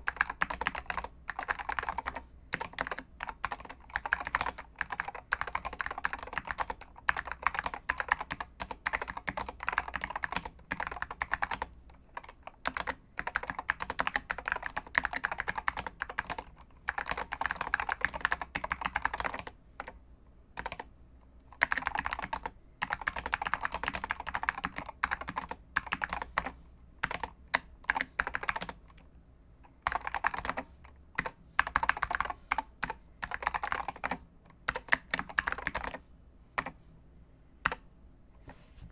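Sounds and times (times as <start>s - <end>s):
keyboard typing: 0.0s - 20.0s, 20.6s - 20.9s, 21.5s - 29.1s, 29.8s - 36.0s, 36.6s - 36.8s, 37.6s - 37.9s.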